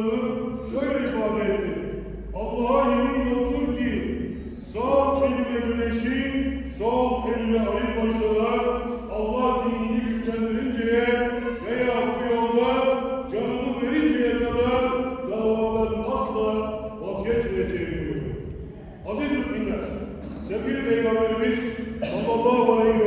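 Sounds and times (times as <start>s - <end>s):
man chanting religious recitation: 0.0s - 23.0s.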